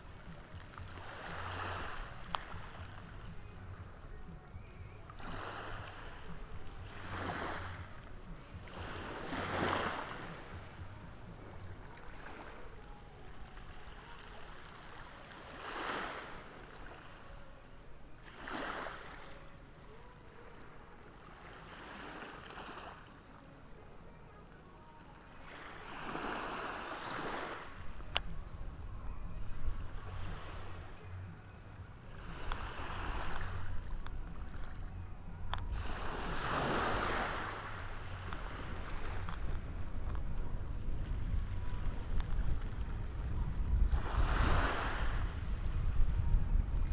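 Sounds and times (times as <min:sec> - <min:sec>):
waves breaking on shore: 0:00.0 - 0:46.9.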